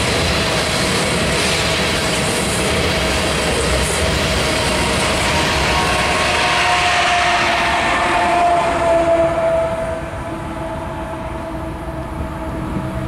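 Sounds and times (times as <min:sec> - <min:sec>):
diesel locomotive engine: 0:00.0 - 0:13.0
steady train whine: 0:00.0 - 0:13.0
train wheels on rails: 0:00.0 - 0:13.0.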